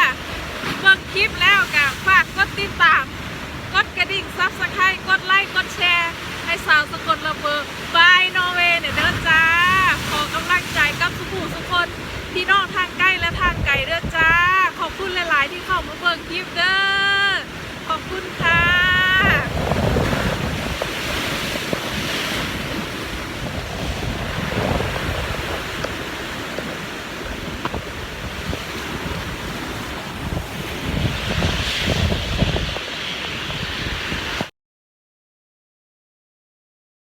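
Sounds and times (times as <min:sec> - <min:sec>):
sea waves breaking: 0:00.0 - 0:34.5
wind buffeting microphone: 0:00.0 - 0:34.5.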